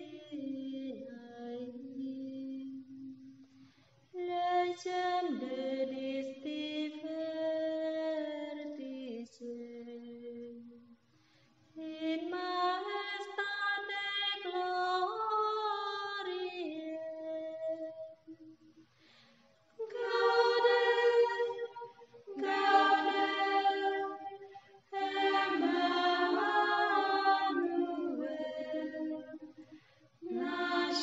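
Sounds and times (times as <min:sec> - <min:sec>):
women singing a slow chant: 0:00.0 - 0:03.4, 0:04.2 - 0:10.7, 0:11.8 - 0:18.0, 0:19.8 - 0:31.0.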